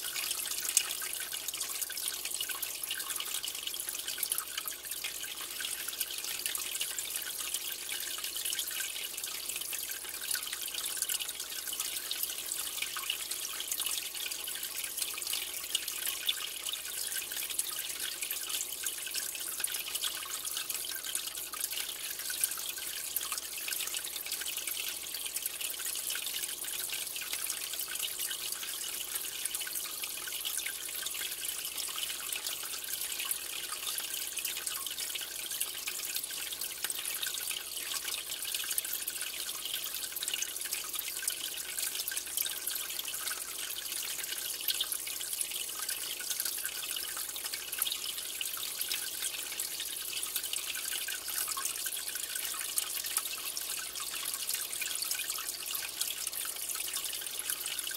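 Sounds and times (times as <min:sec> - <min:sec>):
aquarium water trickling: 0:00.0 - 0:57.9
water drips: 0:00.0 - 0:57.9.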